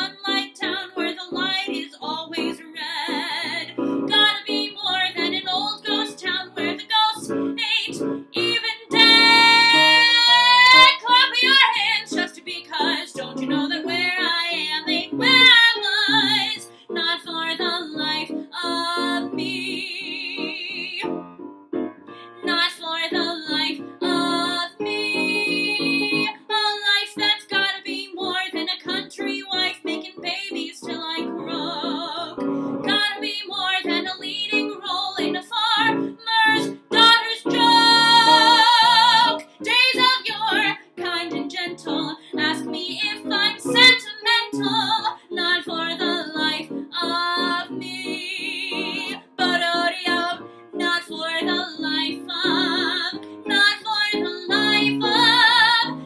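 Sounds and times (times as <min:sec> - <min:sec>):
woman singing with vibrato: 0:00.0 - 0:21.0, 0:22.4 - 0:56.0.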